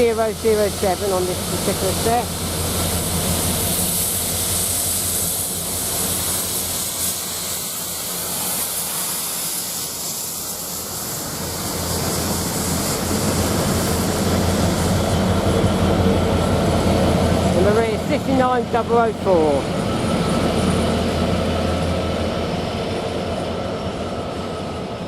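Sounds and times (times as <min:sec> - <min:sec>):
diesel locomotives passing: 0:00.0 - 0:25.0.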